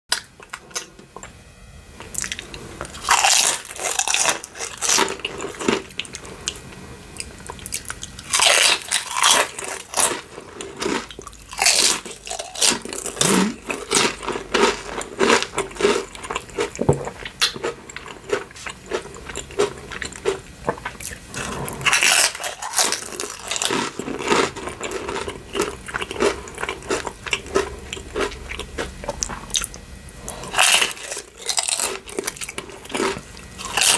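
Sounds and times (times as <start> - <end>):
chips crunching: 2.1 - 6.6, 7.2 - 33.9.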